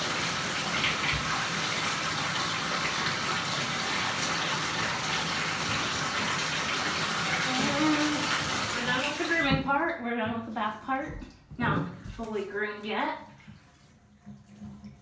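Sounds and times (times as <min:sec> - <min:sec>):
water running into bathtub: 0:00.0 - 0:15.0.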